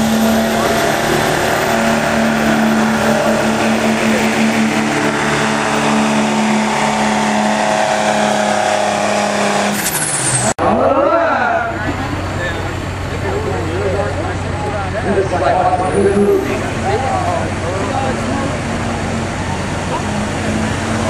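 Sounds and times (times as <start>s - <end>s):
diesel truck engine at high revs: 0.0s - 21.0s.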